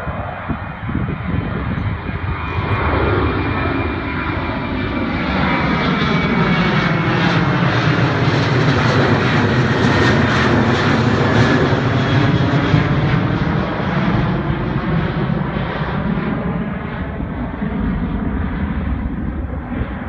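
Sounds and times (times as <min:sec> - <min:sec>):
jet airliner taking off overhead: 0:00.0 - 0:20.0.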